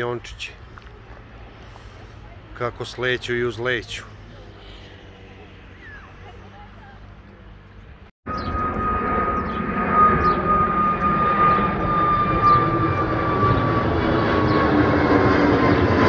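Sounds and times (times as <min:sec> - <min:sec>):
jet airliner roaring overhead: 0:00.0 - 0:16.0.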